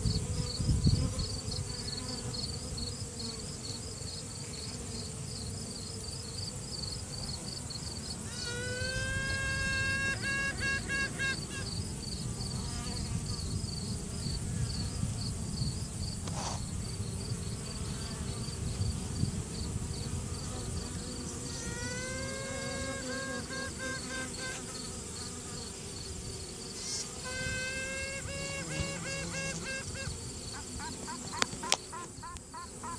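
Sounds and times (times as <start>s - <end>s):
bee colony humming: 0.0s - 32.9s
queen bee piping toots: 0.1s - 15.0s, 16.2s - 32.9s.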